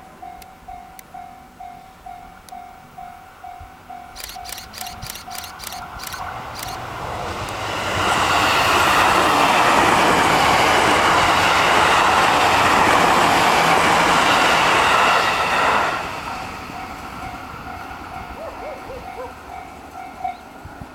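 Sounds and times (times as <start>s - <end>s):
train wheels rushing on rails: 3.5s - 20.9s.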